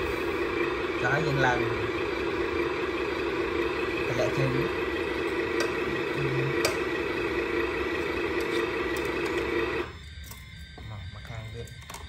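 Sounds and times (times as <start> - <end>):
simulated diesel engine idling: 0.0 - 9.9.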